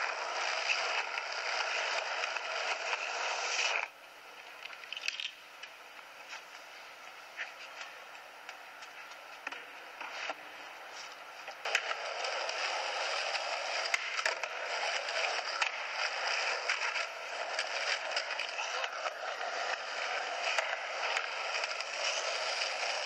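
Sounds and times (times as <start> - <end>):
skateboard clicks over cracks: 0.0 - 6.6, 7.4 - 23.0
skateboard wheels rolling on concrete: 0.0 - 23.0.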